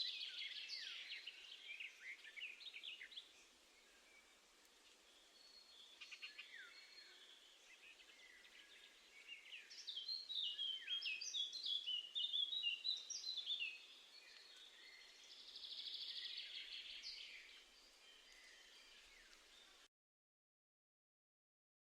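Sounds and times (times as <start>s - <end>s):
faint steady hiss: 0.0s - 19.9s
songbirds chirping: 0.0s - 19.9s.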